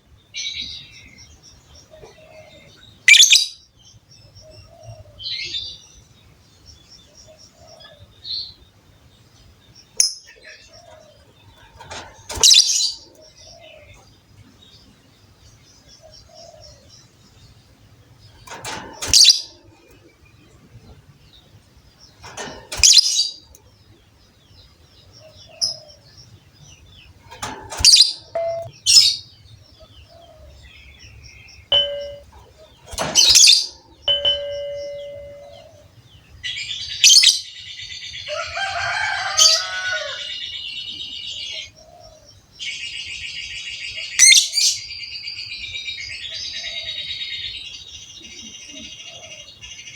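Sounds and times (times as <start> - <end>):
birds twittering and chattering: 0.0 - 49.9
lovebirds calling shrilly: 0.3 - 8.8, 9.5 - 49.9.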